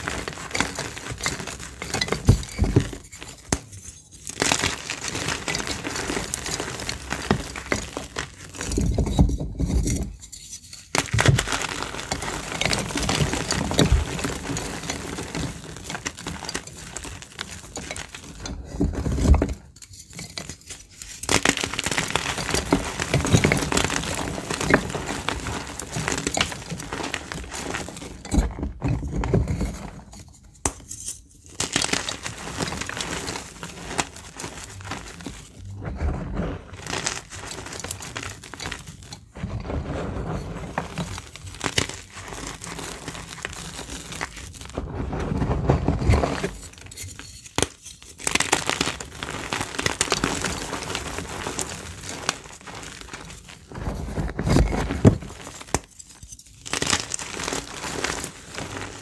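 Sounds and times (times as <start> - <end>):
chalk crunching and crumbling: 0.0 - 59.0.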